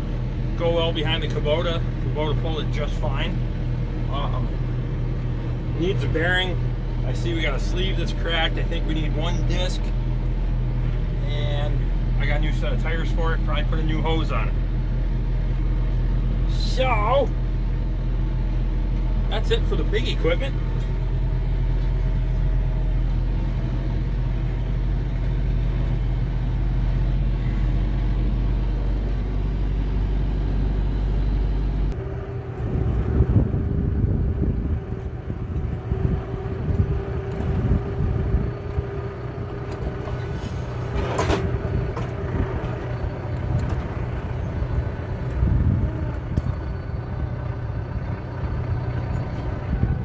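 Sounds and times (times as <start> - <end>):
farm vehicle engine running: 0.0 - 50.0
steady whine: 0.0 - 50.0.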